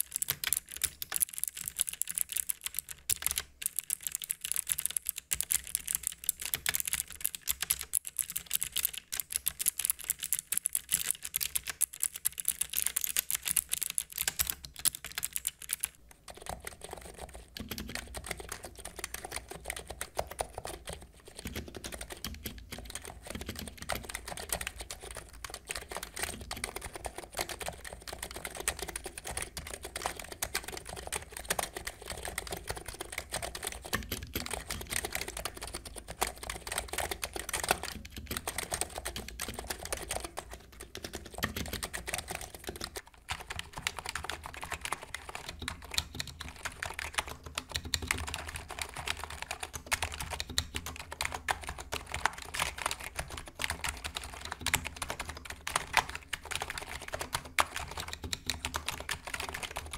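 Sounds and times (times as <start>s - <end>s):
rapid typing on keyboards: 0.0s - 59.9s.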